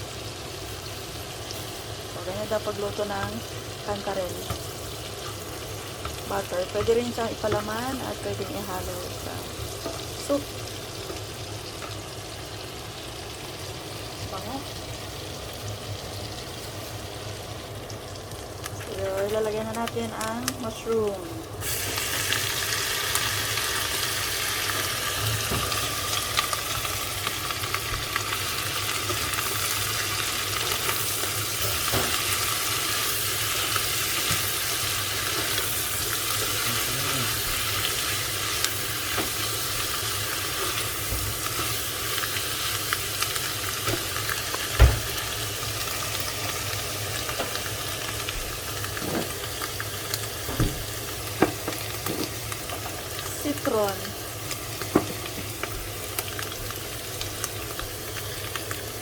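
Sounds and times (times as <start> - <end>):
mushrooms sizzling in a pan: 0.0 - 59.0.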